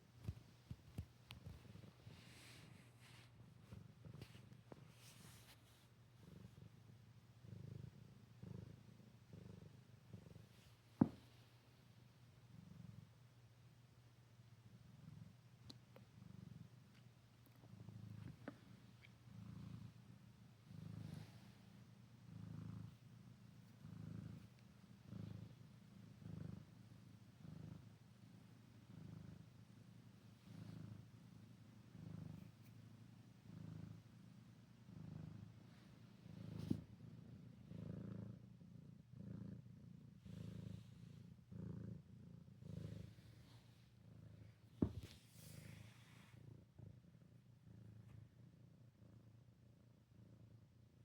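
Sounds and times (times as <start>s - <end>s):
cat purring: 0.0s - 51.0s.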